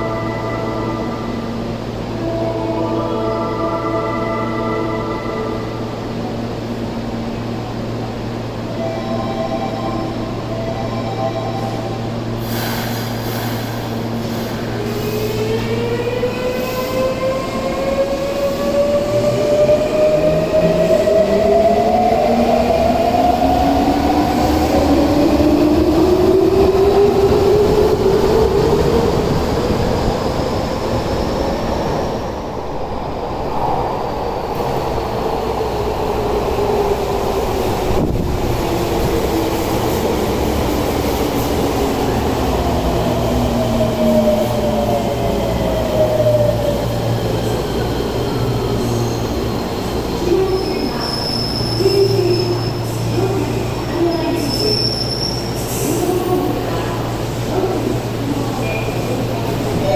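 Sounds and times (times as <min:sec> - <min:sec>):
low hum of train: 0:00.0 - 0:59.9.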